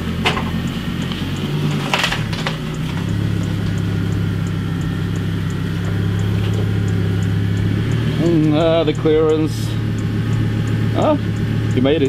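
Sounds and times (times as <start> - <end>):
car engine idling: 0.0 - 12.0
faint regular ticking: 0.0 - 12.0.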